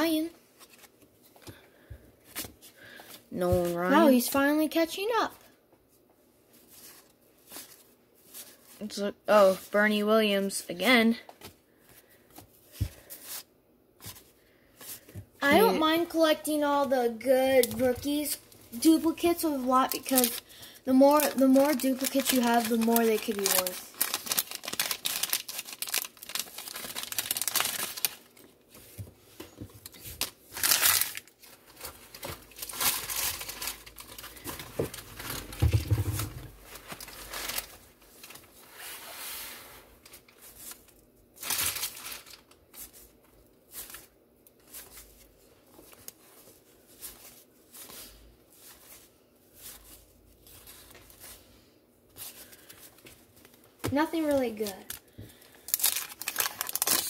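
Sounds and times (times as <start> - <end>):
wax paper wrappers crinkling: 0.2 - 38.8, 40.0 - 57.0.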